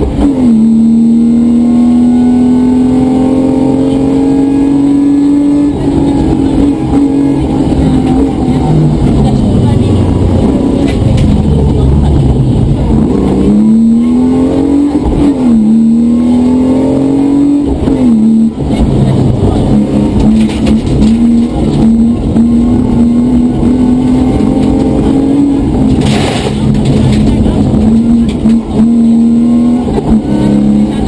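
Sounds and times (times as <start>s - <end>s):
car engine accelerating: 0.0s - 31.0s
road and tyre rumble: 0.0s - 31.0s.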